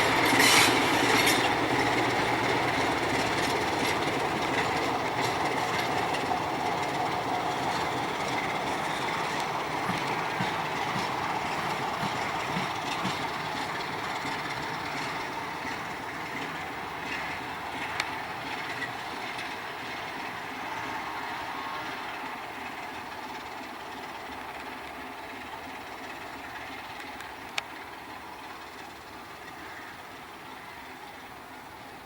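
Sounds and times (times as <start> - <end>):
freight train wagons rumbling: 0.0 - 32.0.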